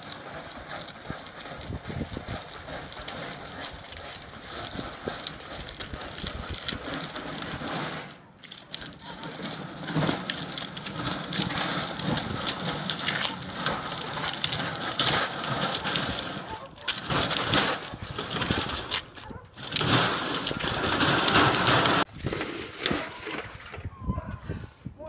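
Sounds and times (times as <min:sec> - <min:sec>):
grill rattling on wet asphalt: 0:00.0 - 0:23.7.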